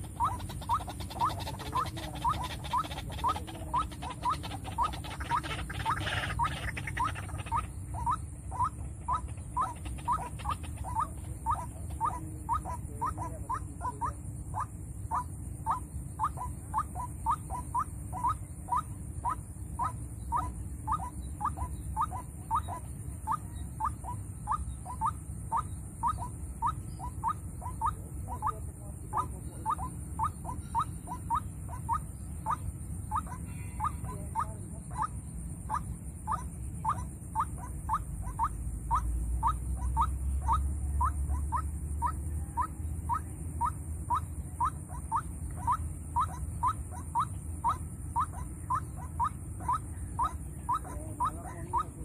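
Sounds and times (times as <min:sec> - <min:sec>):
waterhen calling: 0:00.0 - 0:52.0.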